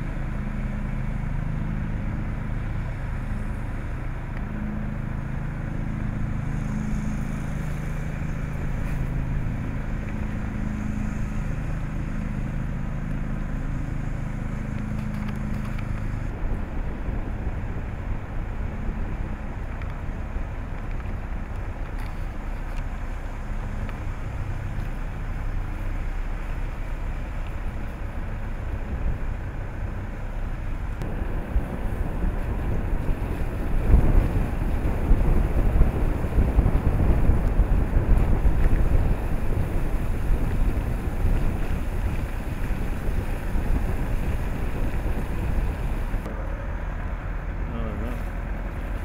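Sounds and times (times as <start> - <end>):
car driving slowly: 0.0 - 49.0
wind buffeting microphone: 0.0 - 49.0.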